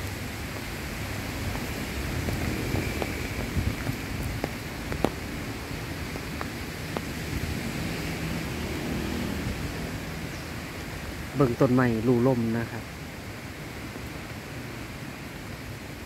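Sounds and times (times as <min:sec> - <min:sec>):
storm wind through trees: 0:00.0 - 0:16.0.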